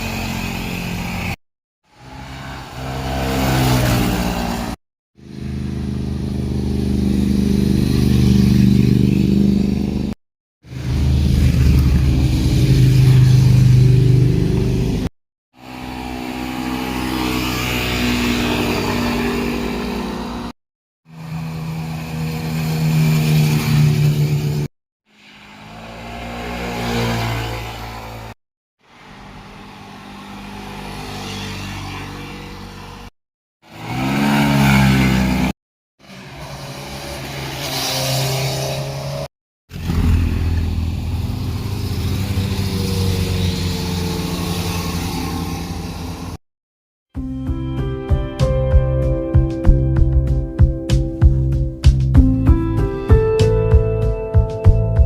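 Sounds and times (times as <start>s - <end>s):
motorcycles revving and passing: 0.0s - 28.4s, 29.2s - 33.1s, 33.7s - 46.4s.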